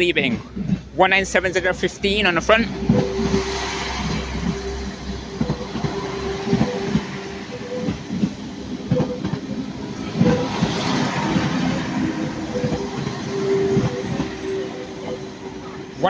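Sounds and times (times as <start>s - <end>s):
train engine whine: 0.0s - 16.0s.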